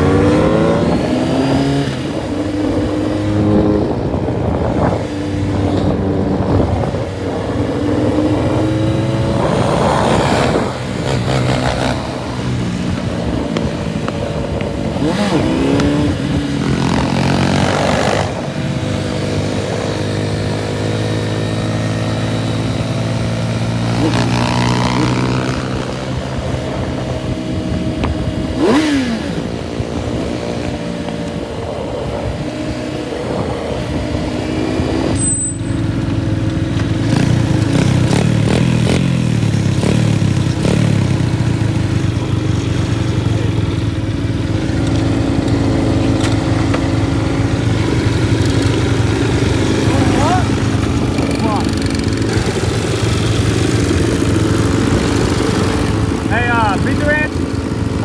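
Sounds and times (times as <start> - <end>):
minibike engine running: 0.0 - 58.0.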